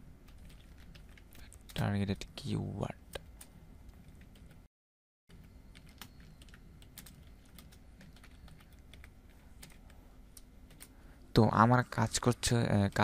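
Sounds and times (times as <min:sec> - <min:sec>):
low steady hum: 0:00.0 - 0:04.7, 0:05.3 - 0:13.0.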